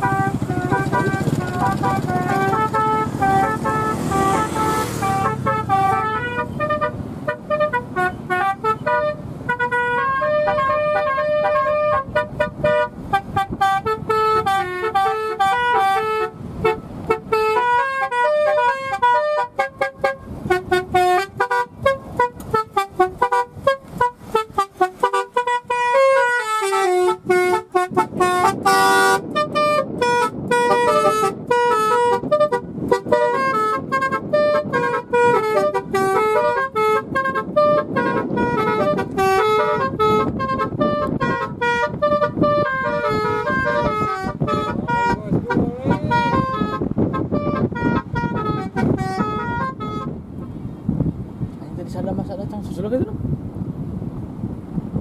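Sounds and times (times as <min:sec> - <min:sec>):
car horn playing melody: 0:00.0 - 0:50.6
car low rumble: 0:00.0 - 0:55.0.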